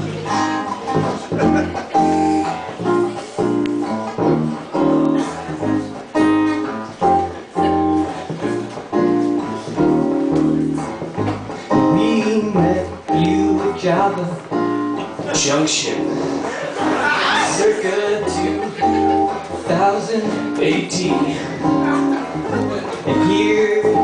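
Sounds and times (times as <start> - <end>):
acoustic guitar strumming chords: 0.0 - 24.0
bass ukulele low notes: 0.0 - 24.0.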